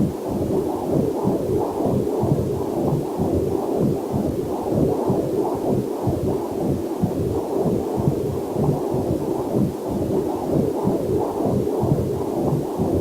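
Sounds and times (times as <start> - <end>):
fetal heartbeat on doppler monitor: 0.0 - 13.0.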